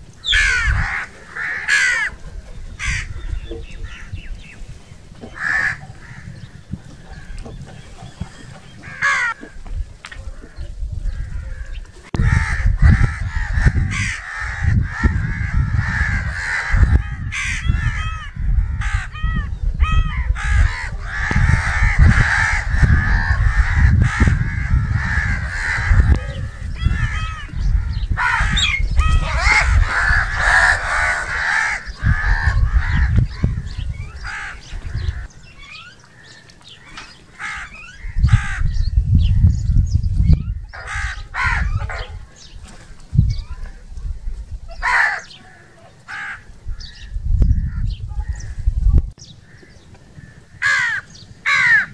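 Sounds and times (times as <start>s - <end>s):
crows cawing: 0.2s - 2.2s, 2.8s - 4.2s, 5.3s - 7.5s, 8.8s - 9.6s, 10.4s - 38.8s, 40.8s - 42.2s, 44.8s - 47.8s, 49.4s - 51.9s.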